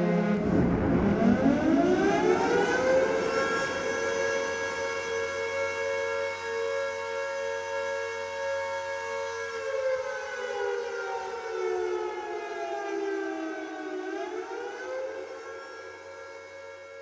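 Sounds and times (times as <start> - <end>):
air raid siren wailing: 0.0 - 17.0.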